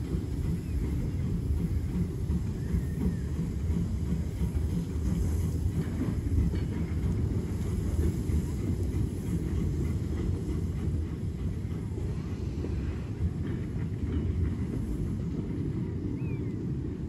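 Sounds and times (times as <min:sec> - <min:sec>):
steam locomotive rumbling: 0:00.0 - 0:17.0.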